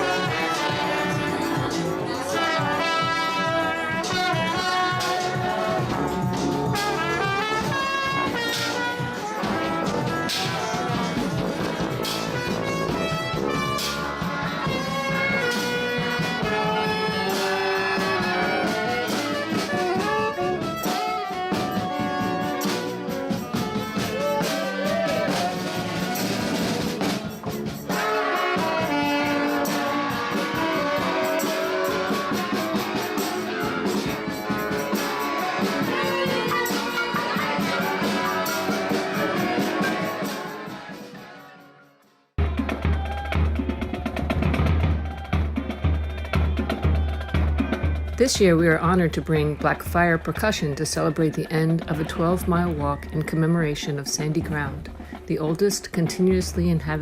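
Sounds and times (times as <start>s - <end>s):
brass band playing: 0.0s - 57.0s
percussion beat: 0.0s - 57.0s.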